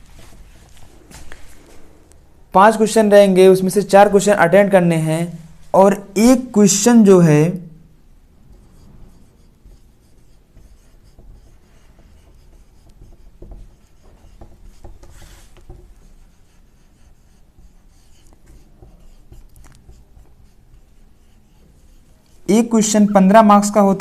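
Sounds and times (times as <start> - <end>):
marker writing on whiteboard: 0.0 - 2.0, 2.6 - 7.3, 7.9 - 24.0.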